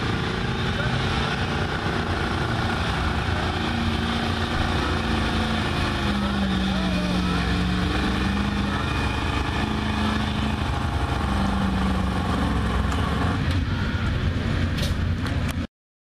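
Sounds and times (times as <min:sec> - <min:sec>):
pickup engine running hard: 0:00.0 - 0:15.5.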